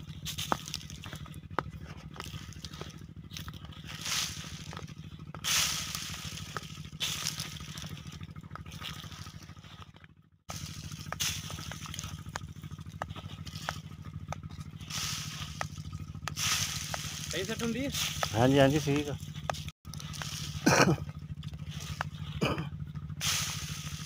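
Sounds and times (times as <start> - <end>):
granules pattering onto soil: 0.0 - 9.9, 10.5 - 24.0
steady low hum: 0.0 - 24.0.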